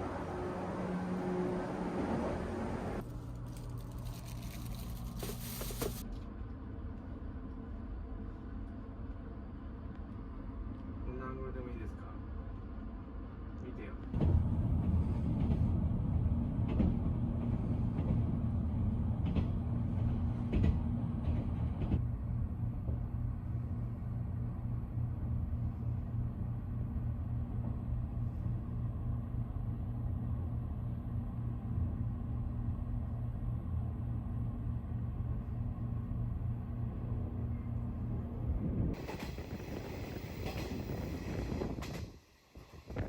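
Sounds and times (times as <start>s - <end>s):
train carriage rumble and hum: 0.0s - 43.0s.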